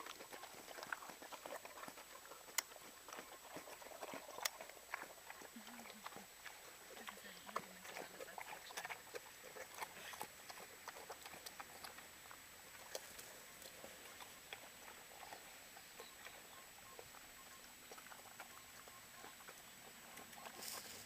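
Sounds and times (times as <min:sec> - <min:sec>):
pigs chewing and crunching: 0:00.0 - 0:21.0.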